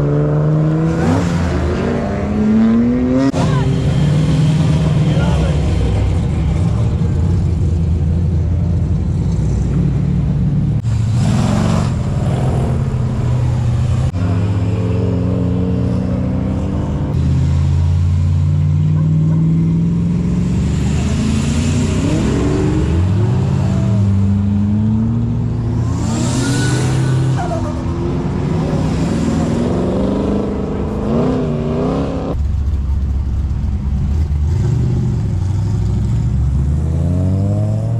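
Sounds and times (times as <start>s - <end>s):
car engines idling and revving: 0.0s - 37.9s.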